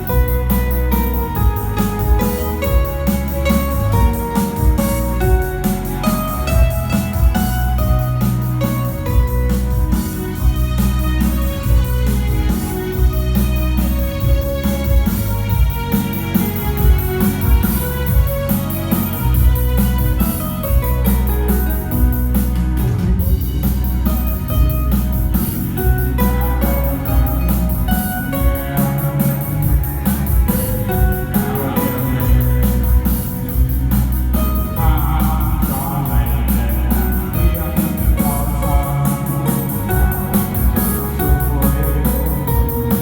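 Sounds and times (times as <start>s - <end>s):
music with drum beat and bass: 0.0s - 43.0s.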